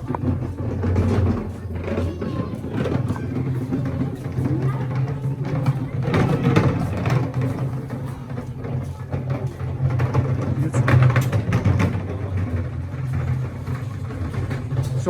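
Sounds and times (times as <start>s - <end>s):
clatter: 0.0s - 15.0s
road noise: 0.0s - 15.0s
vehicle engine humming: 0.0s - 15.0s.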